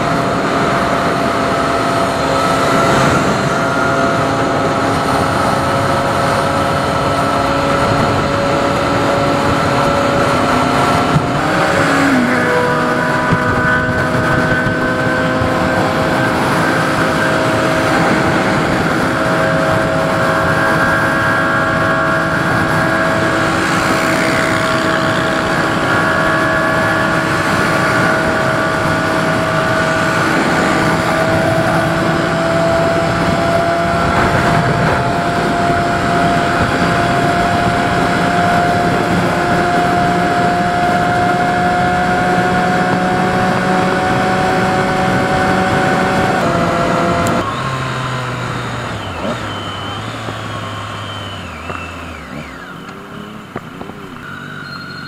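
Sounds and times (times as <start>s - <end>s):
motorcycle engine cruising: 0.0s - 55.0s
wind noise: 0.0s - 55.0s.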